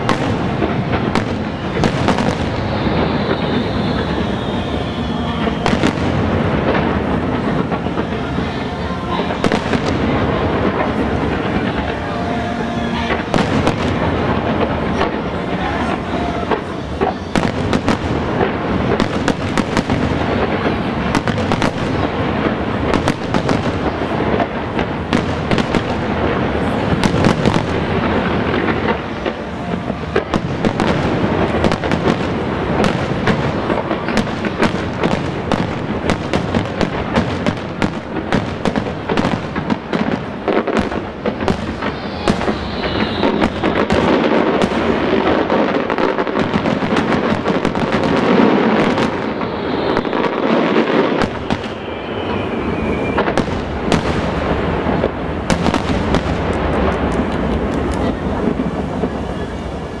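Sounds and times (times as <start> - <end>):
firework whistle: 0.0 - 60.0
fireworks bangs and crackling: 0.0 - 60.0.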